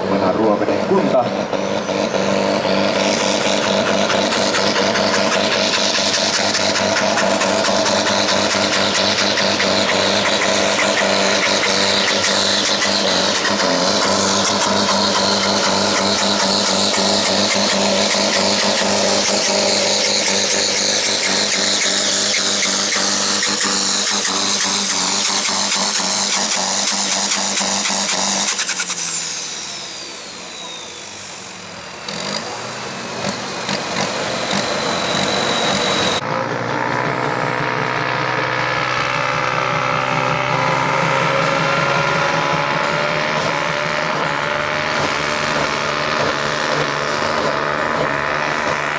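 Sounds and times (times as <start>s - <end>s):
tractor engine: 0.0s - 48.9s
turbocharger whistle: 0.0s - 48.9s.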